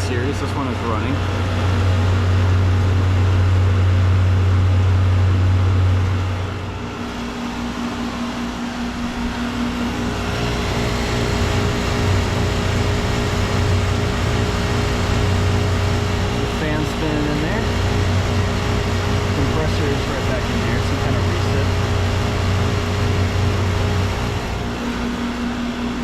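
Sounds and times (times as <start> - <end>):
compressor hum: 0.0 - 26.0
condenser fan: 0.0 - 26.0.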